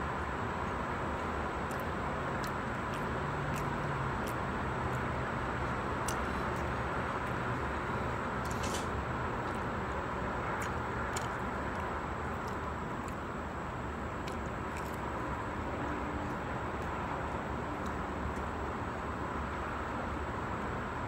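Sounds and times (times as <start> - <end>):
background hum and hiss: 0.0 - 21.0
person chewing: 0.6 - 18.6.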